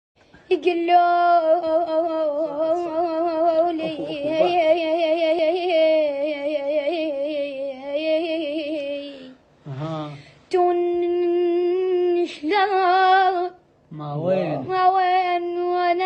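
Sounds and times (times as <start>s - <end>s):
boy singing with vibrato: 0.5s - 13.7s, 14.6s - 16.0s.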